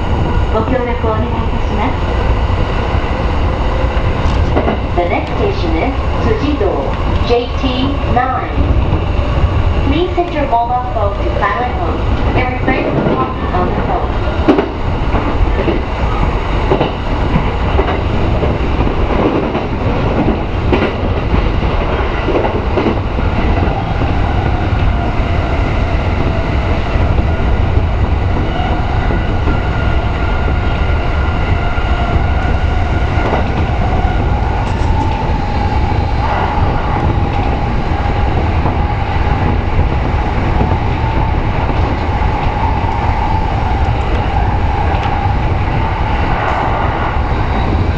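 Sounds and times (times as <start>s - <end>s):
rail clicks: 0.0s - 47.9s
train rumble: 0.0s - 47.9s.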